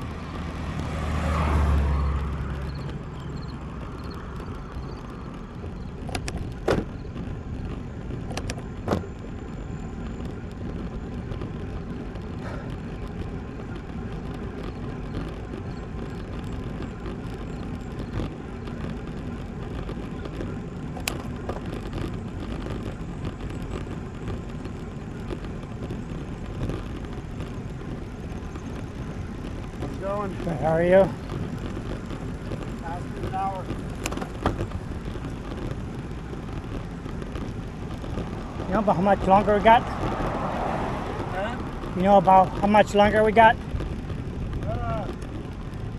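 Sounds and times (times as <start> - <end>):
bike tyres on pavement: 0.0 - 45.9
wind on microphone: 0.0 - 45.9.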